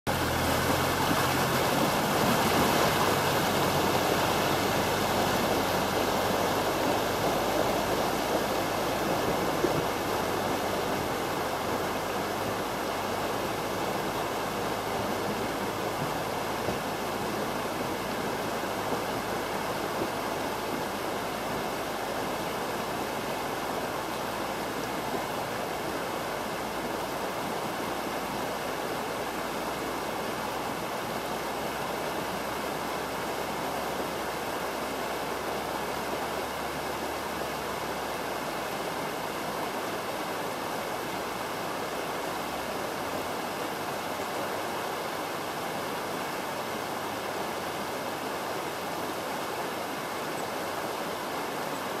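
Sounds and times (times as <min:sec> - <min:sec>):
river rushing over rocks: 0:00.1 - 0:52.0.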